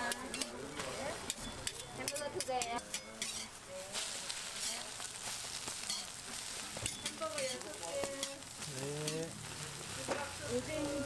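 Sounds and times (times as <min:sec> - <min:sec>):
eggs sizzling on griddle: 0:00.0 - 0:11.0
spatula scraping metal griddle: 0:00.0 - 0:11.0.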